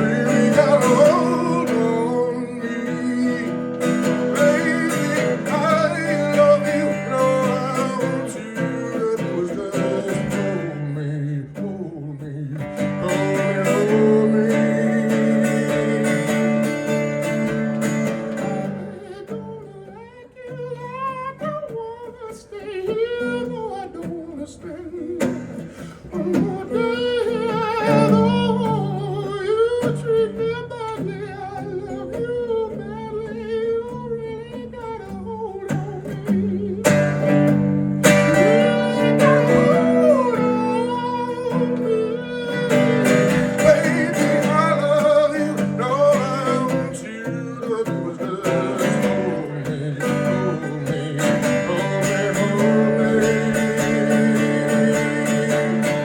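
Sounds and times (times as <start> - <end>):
acoustic band music with guitar: 0.0 - 56.0.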